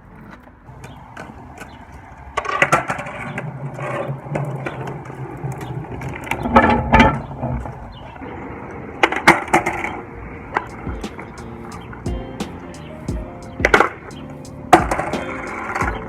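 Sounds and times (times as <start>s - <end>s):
skateboard clacks: 0.0s - 16.0s
skateboard wheels rolling: 0.0s - 16.0s.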